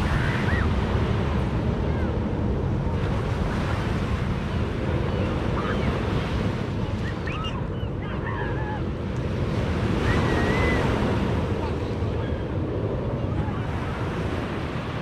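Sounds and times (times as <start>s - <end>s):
waves breaking on beach: 0.0s - 15.0s
wind buffeting microphone: 0.0s - 15.0s.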